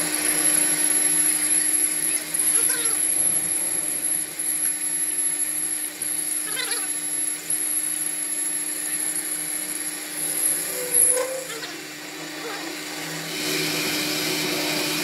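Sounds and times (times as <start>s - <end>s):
metal lathe humming and whining: 0.0s - 15.0s
tool cutting steel: 0.0s - 15.0s.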